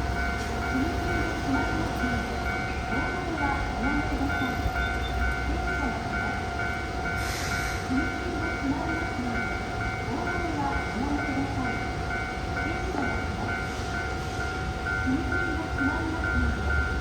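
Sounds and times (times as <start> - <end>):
level crossing warning bell: 0.0 - 17.0
train noise: 0.0 - 17.0.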